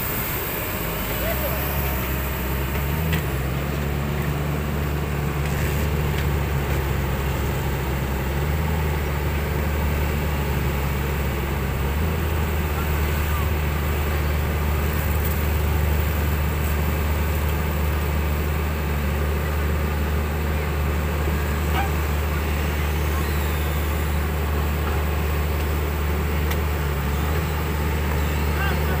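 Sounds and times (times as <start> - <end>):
excavator diesel engines running: 0.0 - 29.0.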